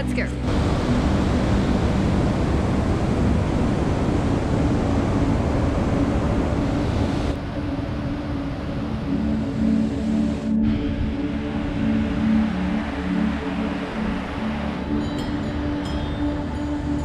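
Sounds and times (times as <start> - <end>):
background music with low pulse: 0.0 - 17.0
waterfall rushing: 0.4 - 17.0.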